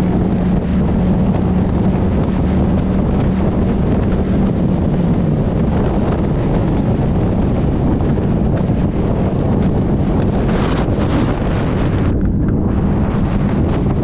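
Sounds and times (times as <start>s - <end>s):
motorcycle engine rumbling: 0.0s - 14.0s
wind buffeting microphone: 0.0s - 14.0s.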